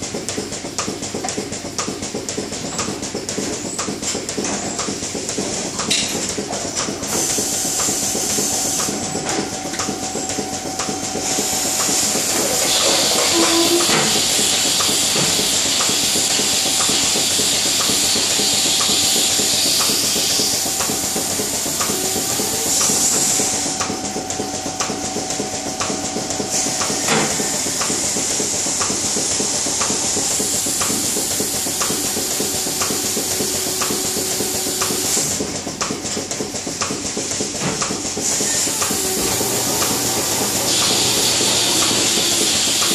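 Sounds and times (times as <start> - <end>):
rhythmic sharp clicks: 0.0 - 42.9
machine hum: 5.2 - 36.0, 38.4 - 42.9.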